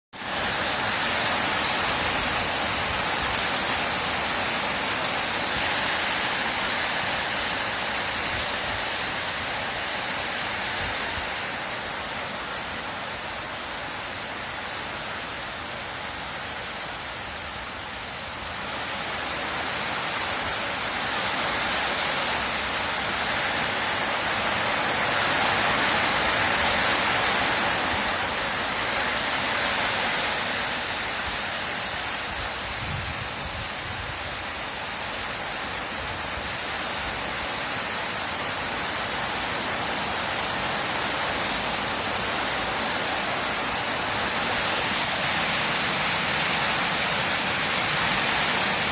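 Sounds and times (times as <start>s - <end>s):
heavy rain pouring: 0.1s - 48.9s.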